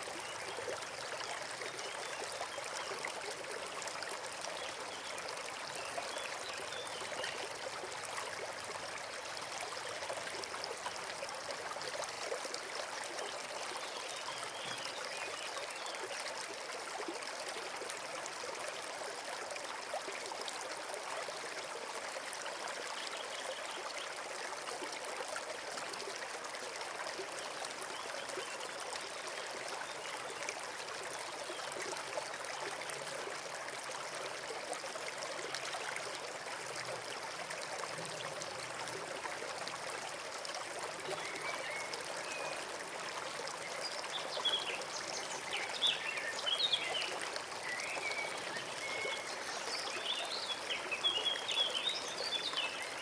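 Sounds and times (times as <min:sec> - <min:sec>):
stream babbling: 0:00.0 - 0:53.0.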